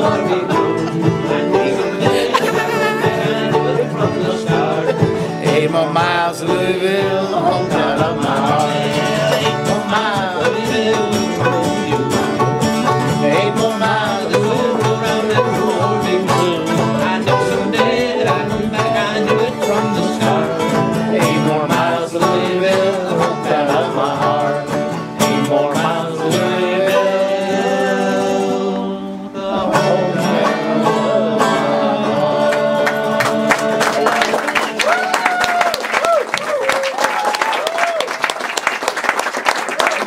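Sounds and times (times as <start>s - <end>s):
bluegrass guitar and banjo: 0.0s - 35.4s
person singing: 0.0s - 36.2s.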